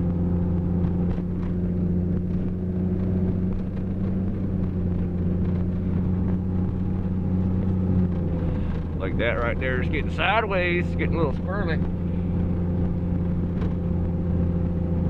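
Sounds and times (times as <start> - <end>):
car engine drone inside cab: 0.0 - 15.0
road and tyre noise: 0.0 - 15.0.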